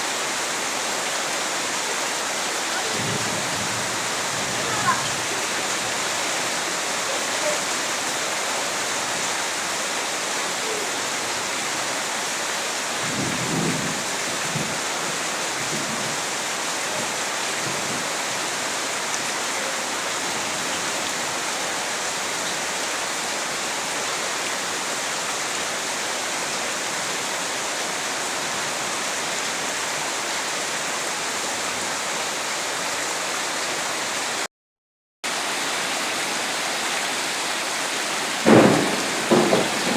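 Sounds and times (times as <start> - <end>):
heavy rain falling: 0.0 - 34.5, 35.3 - 39.9.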